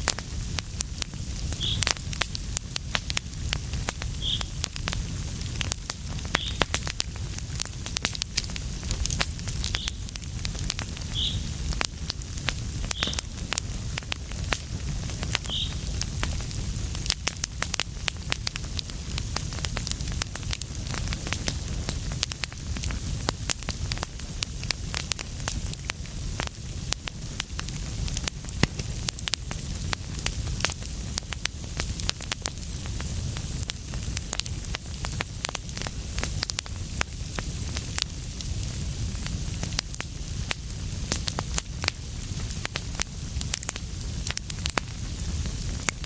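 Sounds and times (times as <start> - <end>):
fire crackling and popping: 0.0 - 46.0
low rumble of flames: 0.0 - 46.0.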